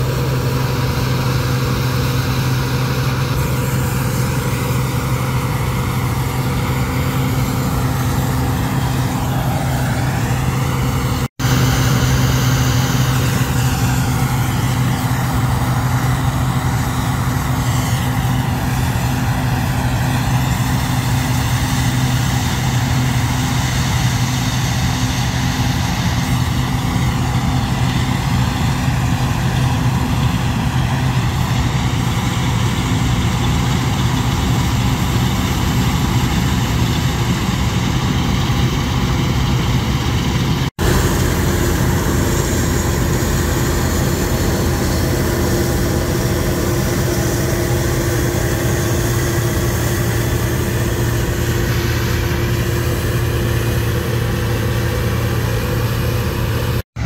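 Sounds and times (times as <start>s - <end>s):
combine harvester running: 0.0s - 57.0s
higher steady hum: 0.0s - 57.0s
low hum: 0.0s - 57.0s.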